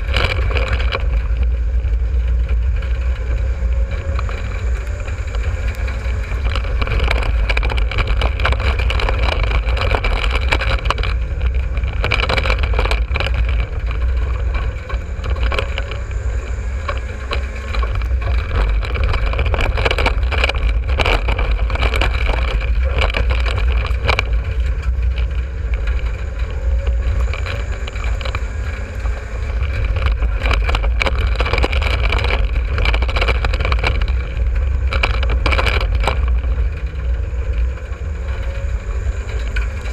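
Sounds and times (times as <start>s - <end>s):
chassis rattles and knocks: 0.0s - 39.9s
race car engine rumble: 0.0s - 39.9s.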